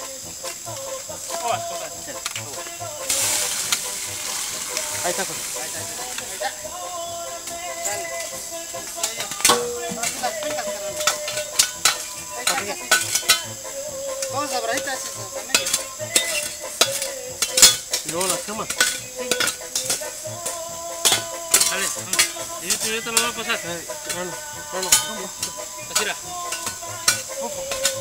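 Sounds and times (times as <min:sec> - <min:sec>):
food sizzling in a metal pan: 0:00.0 - 0:28.0
utensil scraping a pan: 0:00.4 - 0:06.7, 0:07.4 - 0:28.0.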